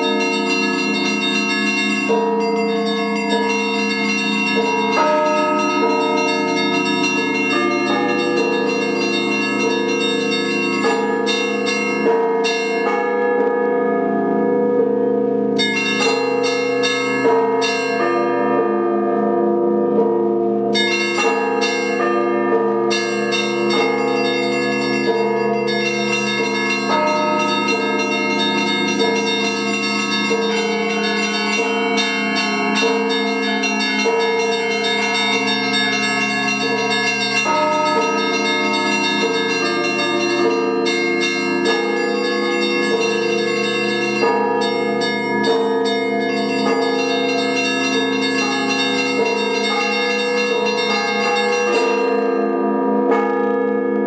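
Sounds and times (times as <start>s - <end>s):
large church bells ringing: 0.0s - 54.0s
small high church bells: 0.0s - 54.0s.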